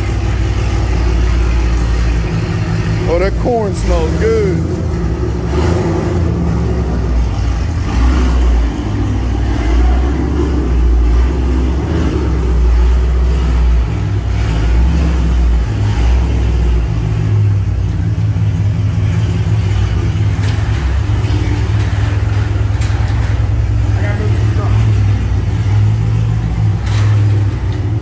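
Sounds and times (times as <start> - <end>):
car engine deep exhaust note: 0.0 - 28.0.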